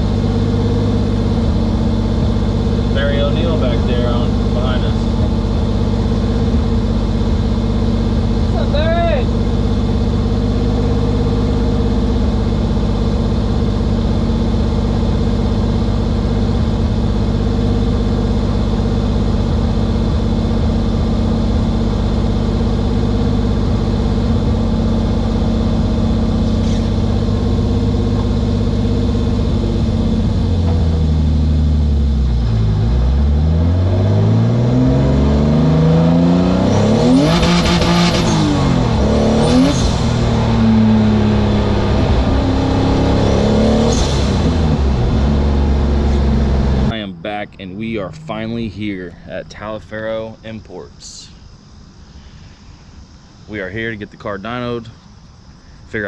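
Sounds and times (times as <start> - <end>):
car engine accelerating: 0.0 - 54.3
car engine idling: 0.0 - 56.0.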